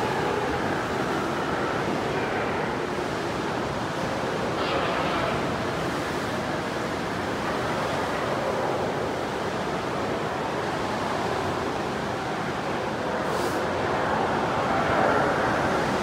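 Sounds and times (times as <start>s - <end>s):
ocean surf breaking in cave: 0.0s - 16.0s.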